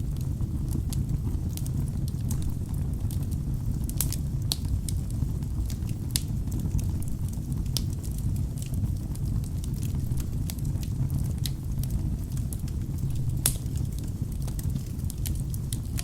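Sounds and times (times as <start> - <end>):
crackles and pops of burning logs: 0.0 - 16.0
low rumble of flame: 0.0 - 16.0.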